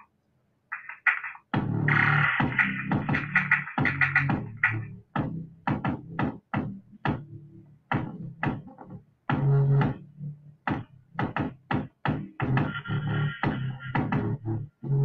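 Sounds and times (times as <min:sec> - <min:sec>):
electronic beat with synth notes: 0:00.7 - 0:15.0.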